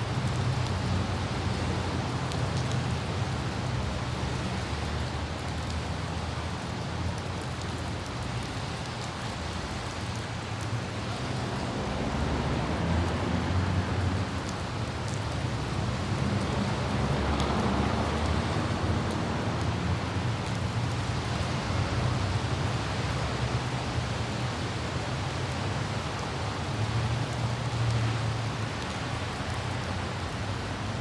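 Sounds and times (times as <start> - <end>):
light rain droplet ticks: 0.0 - 31.0
wind: 0.0 - 31.0.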